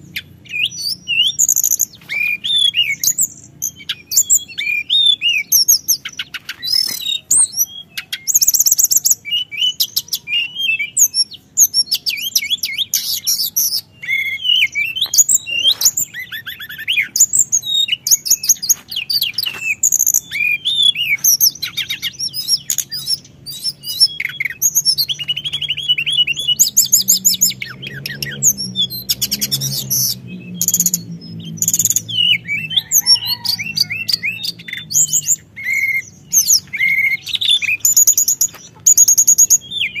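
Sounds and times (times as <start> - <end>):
songbird chirping and trilling: 0.0 - 40.0.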